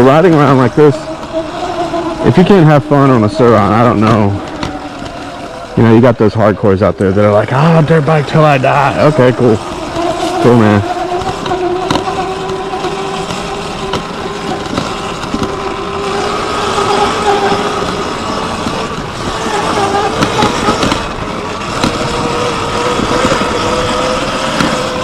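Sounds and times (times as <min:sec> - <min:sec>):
constant rushing noise: 0:00.0 - 0:25.0
electric motor whining: 0:00.0 - 0:25.0.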